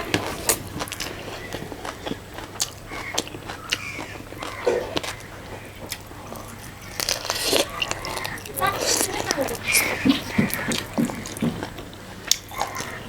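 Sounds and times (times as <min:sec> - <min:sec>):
person chewing and biting: 0:00.0 - 0:13.0.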